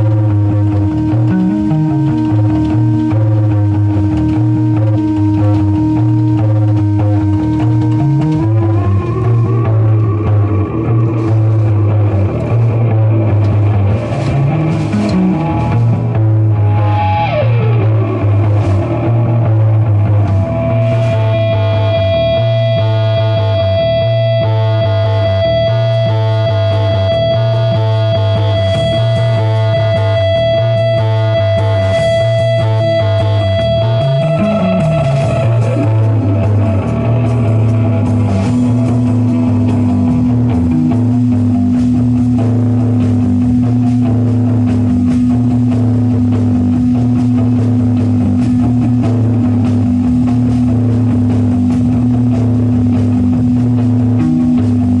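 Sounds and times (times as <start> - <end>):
drums: 0.0 - 55.0
electric guitar: 0.0 - 55.0
pulsing bass line: 0.0 - 55.0
steady low drone: 0.0 - 55.0.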